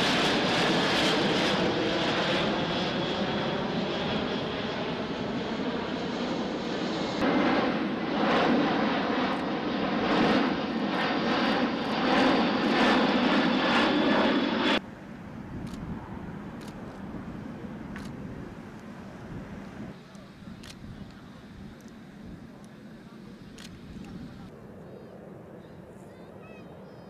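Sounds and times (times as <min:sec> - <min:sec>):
jet engines droning overhead: 0:00.0 - 0:27.0.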